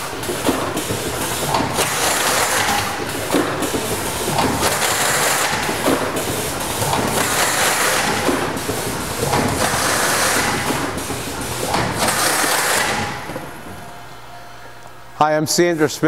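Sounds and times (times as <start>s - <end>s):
mechanical clatter: 0.0s - 13.9s.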